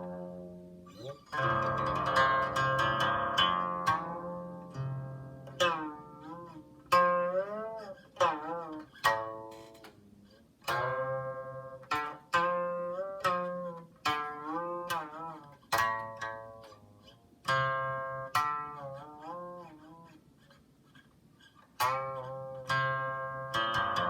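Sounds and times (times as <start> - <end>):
plucked zither notes: 0.0 - 20.5, 21.8 - 24.0.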